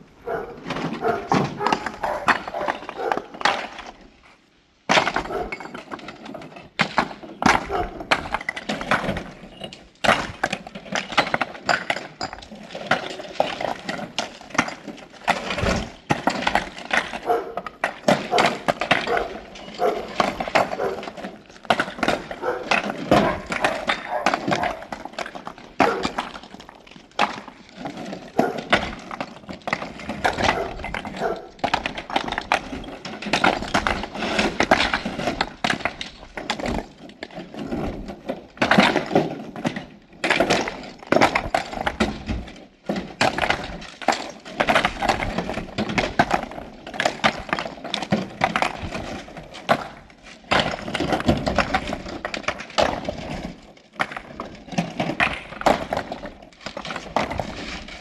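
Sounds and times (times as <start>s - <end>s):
stone pieces knocking and clattering: 1.0s - 4.0s, 4.9s - 58.0s.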